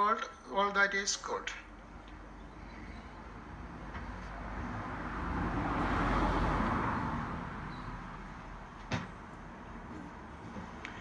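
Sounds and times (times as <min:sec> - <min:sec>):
passing vehicle tyre and road noise: 0:01.8 - 0:11.0.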